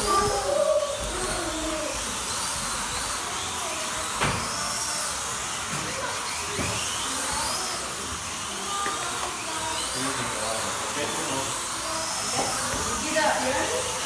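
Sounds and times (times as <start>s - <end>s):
slot car motors whining: 0.0s - 14.0s.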